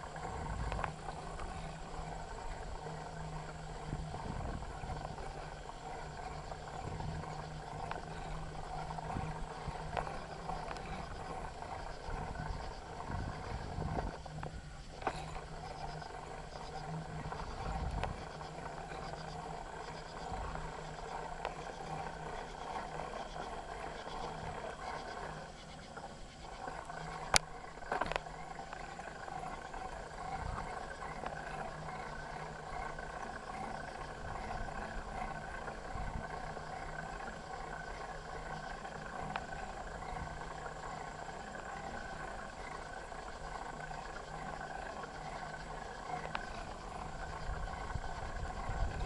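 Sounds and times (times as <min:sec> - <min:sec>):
bicycle rumble and rattle: 0:00.0 - 0:49.0.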